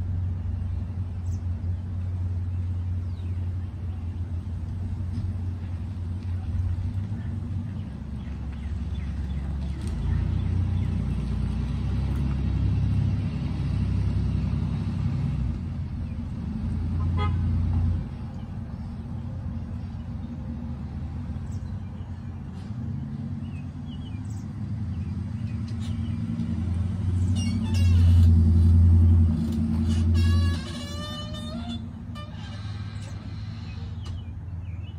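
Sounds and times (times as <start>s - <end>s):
low engine rumble: 0.0s - 34.9s.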